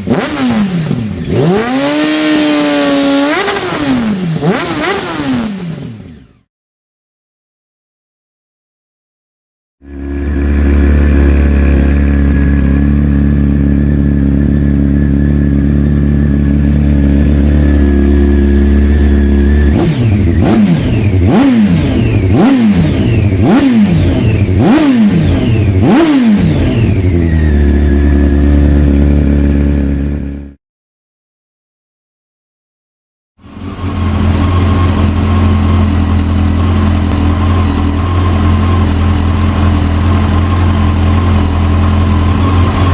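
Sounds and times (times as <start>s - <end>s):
motorcycle engine idling and revving: 0.0s - 6.5s, 9.8s - 30.6s, 33.4s - 42.9s.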